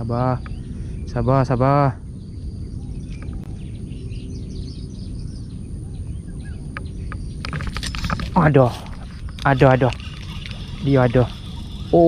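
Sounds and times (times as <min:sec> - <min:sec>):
faint bird chirps: 0:00.0 - 0:12.0
steady low rumble: 0:00.0 - 0:12.0.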